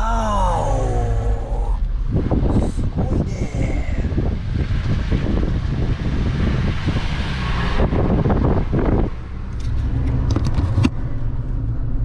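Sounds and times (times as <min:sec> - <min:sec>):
car engine hum: 0:00.0 - 0:12.0
road and wind noise: 0:00.0 - 0:12.0.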